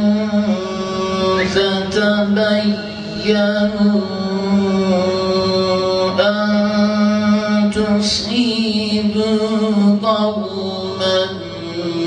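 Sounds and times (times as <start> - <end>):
man chanting through a microphone: 0.0 - 12.0.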